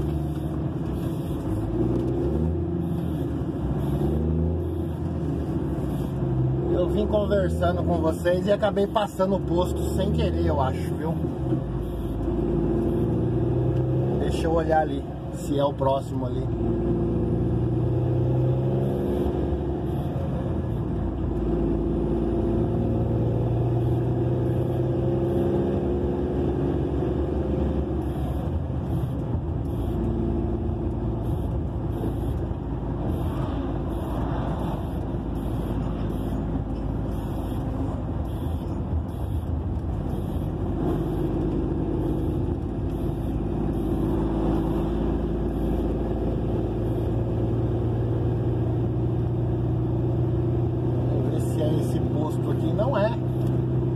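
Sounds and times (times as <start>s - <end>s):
road noise: 0.0s - 53.9s
truck diesel engine running: 0.0s - 53.9s.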